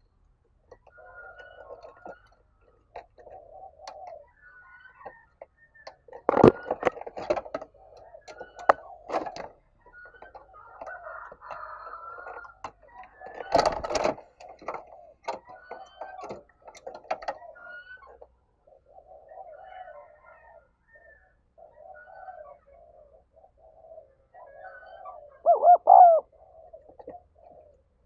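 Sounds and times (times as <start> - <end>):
dove cooing: 2.9 - 5.2, 6.2 - 28.0.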